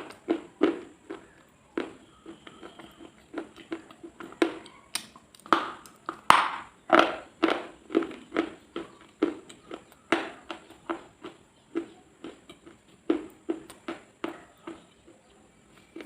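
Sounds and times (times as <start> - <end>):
sharp crunching: 0.0 - 16.0.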